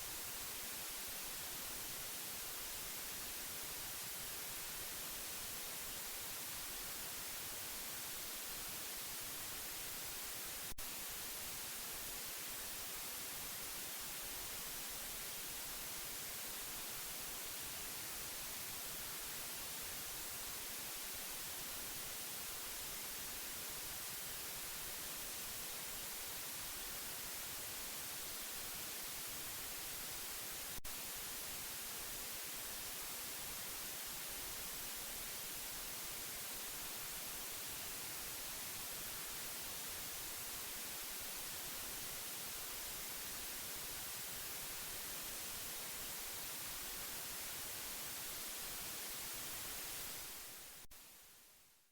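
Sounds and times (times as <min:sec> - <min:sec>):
white noise hiss: 0:00.0 - 0:51.9.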